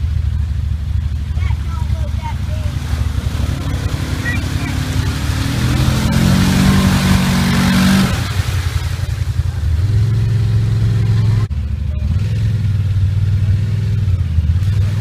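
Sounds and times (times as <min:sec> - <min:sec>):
engines running in mud: 0:00.0 - 0:15.0.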